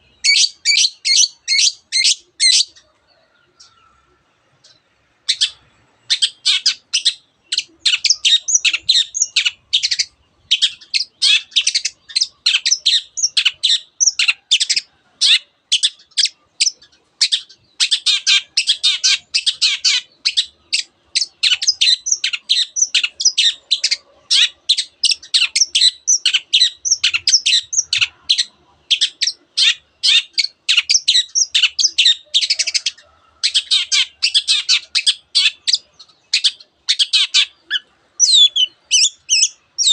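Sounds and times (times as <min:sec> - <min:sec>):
bird singing chirps and warbles: 0:00.0 - 0:39.9.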